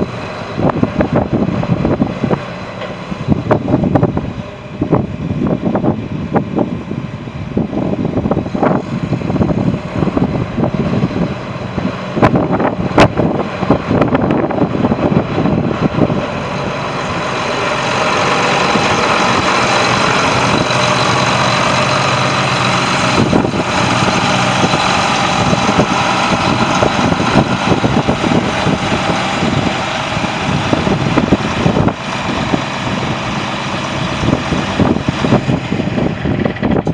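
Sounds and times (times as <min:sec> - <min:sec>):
tractor diesel engine running: 0:00.0 - 0:36.9
wind gusting on microphone: 0:00.0 - 0:36.9.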